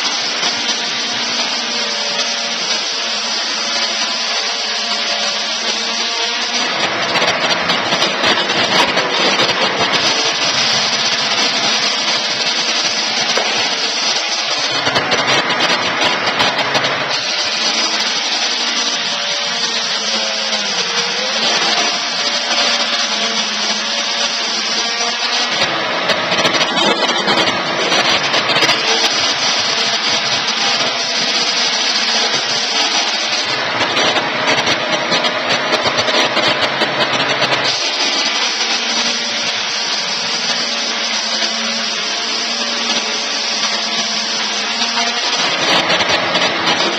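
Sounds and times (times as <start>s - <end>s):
electric sawmill cutting timber: 0.0s - 46.9s.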